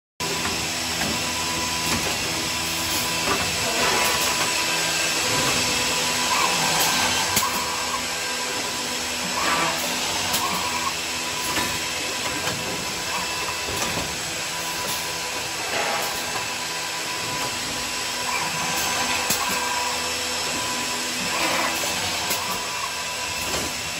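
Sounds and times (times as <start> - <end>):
drilling machine whir and hiss: 0.2 - 23.9.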